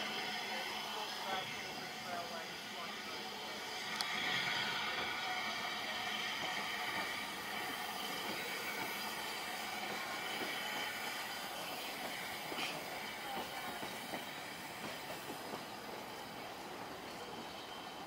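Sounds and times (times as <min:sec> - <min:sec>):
steam hissing: 0:00.0 - 0:18.0.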